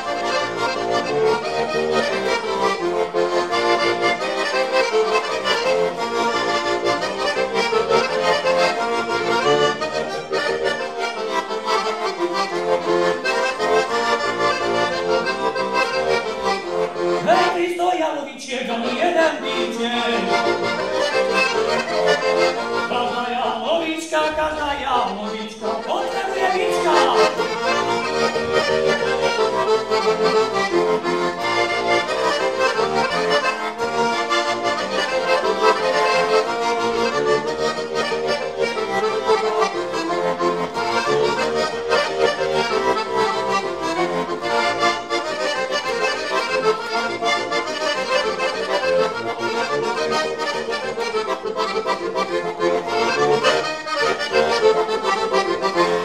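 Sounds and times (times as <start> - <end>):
button accordion folk tune: 0.0 - 56.0.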